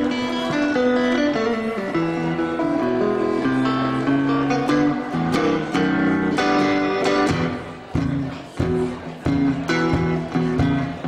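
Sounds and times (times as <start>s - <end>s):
electric guitar playing blues: 0.0s - 11.0s.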